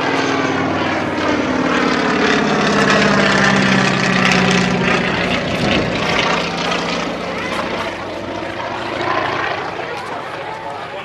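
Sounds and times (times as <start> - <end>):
propeller plane flying overhead: 0.0 - 11.0.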